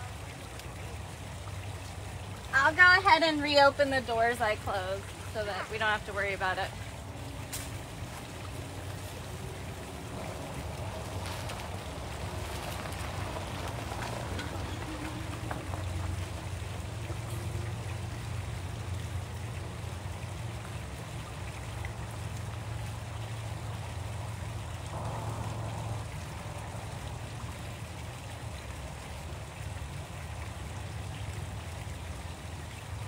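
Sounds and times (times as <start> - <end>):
golf cart running with low hum: 0.0 - 33.0.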